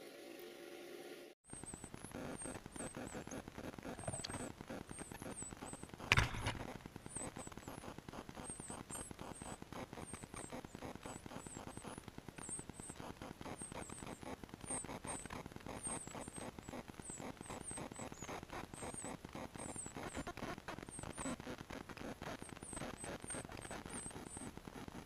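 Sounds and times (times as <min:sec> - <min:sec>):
crackling rustle: 0:01.5 - 0:25.0
nestlings chirping: 0:01.5 - 0:25.0.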